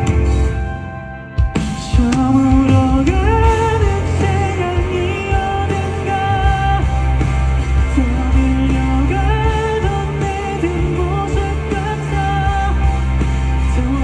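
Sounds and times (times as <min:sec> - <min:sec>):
heavy low end: 0:00.0 - 0:14.0
live pop-rock band playing: 0:00.0 - 0:14.0.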